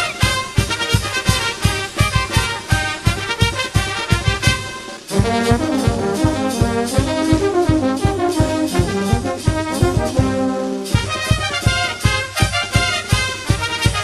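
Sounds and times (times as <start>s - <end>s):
brass band melody: 0.0s - 14.0s
steady drum beat: 0.0s - 14.0s.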